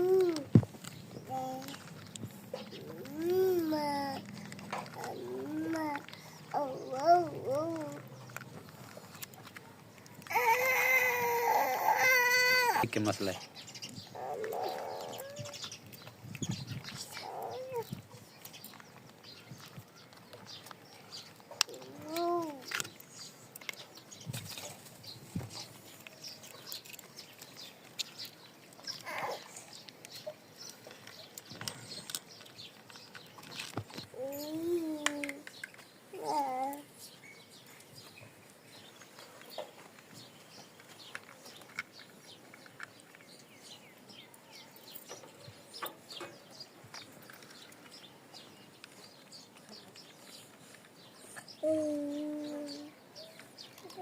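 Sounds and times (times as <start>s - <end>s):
small clicks: 0.0s - 12.5s, 13.1s - 24.8s, 25.6s - 36.9s, 37.8s - 54.0s.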